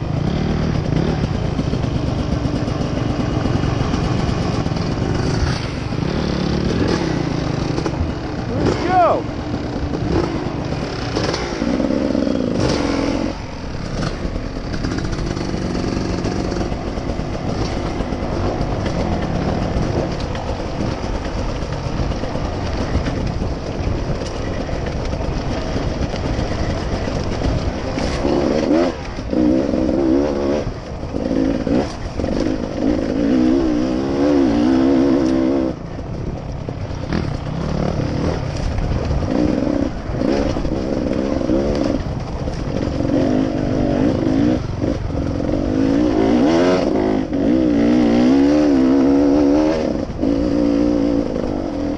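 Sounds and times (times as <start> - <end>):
steady rushing noise: 0.0 - 51.9
vehicle engine running: 0.0 - 51.9.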